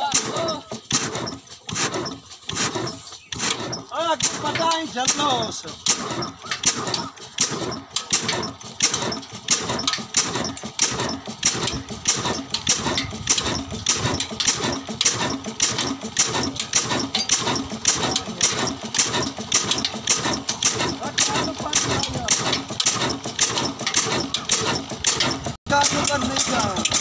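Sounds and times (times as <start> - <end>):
stationary diesel engine running: 0.0 - 27.0.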